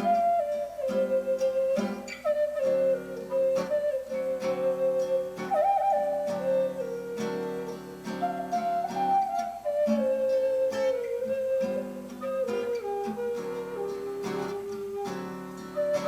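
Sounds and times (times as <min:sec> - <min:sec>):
flute playing slow melody: 0:00.0 - 0:16.0
guitar chords: 0:00.0 - 0:16.0.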